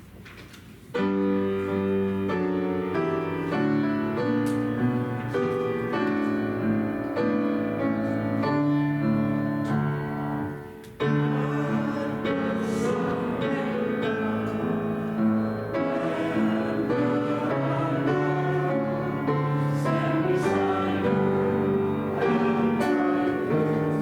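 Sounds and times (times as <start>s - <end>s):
organ chords: 1.0s - 24.0s.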